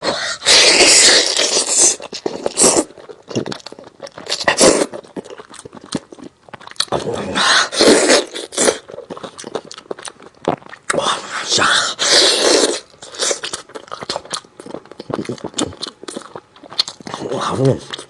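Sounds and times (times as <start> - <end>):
close chewing and tearing: 0.1 - 18.0.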